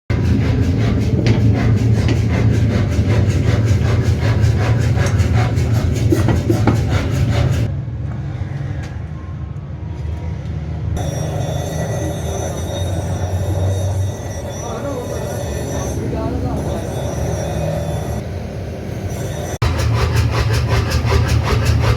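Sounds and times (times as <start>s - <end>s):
dull workshop noise: 0.1s - 21.9s
low machine drone: 0.1s - 21.9s.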